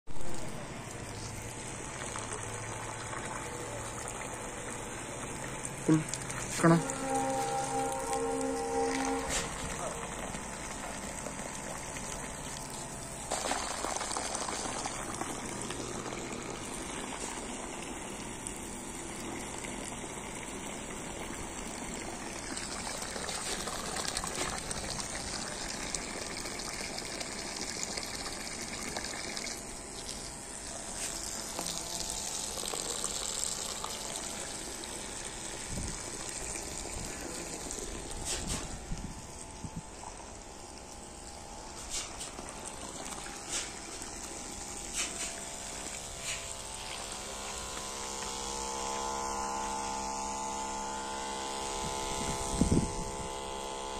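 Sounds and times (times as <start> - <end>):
hose sprayer jet gushing: 0.2 - 53.9.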